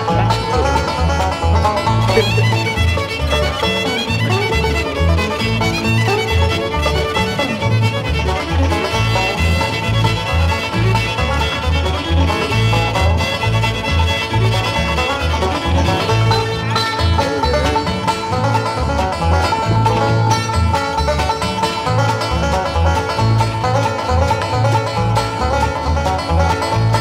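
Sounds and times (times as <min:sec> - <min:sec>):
bluegrass banjo and fiddle music: 0:00.0 - 0:27.0.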